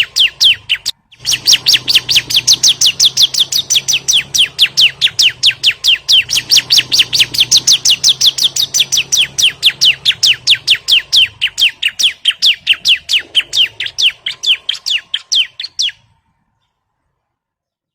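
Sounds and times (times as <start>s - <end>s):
bird chipping calls: 0.0s - 16.1s.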